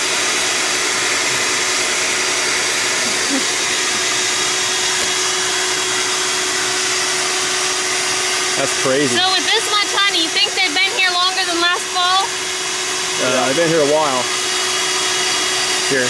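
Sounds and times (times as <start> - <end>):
bee vacuum humming: 0.0 - 16.0.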